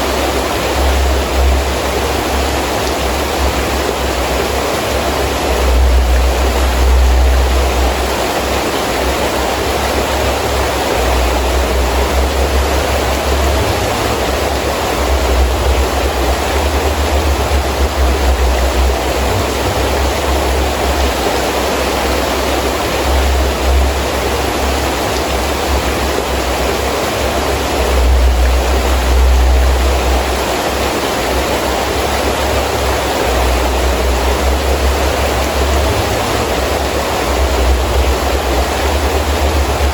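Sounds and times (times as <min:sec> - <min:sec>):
heavy rain: 0:00.0 - 0:39.9
rumbling wind gusts: 0:00.0 - 0:39.9.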